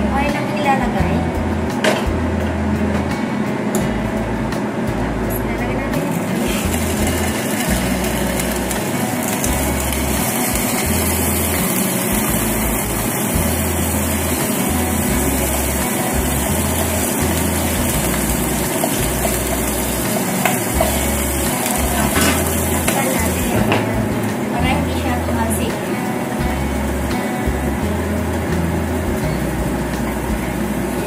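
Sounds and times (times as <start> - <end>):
fish sizzling in frying oil: 6.0 - 31.0.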